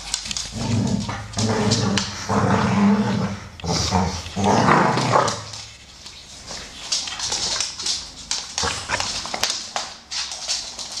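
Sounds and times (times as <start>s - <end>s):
dog claws clicking on wooden floor: 0.0s - 11.0s.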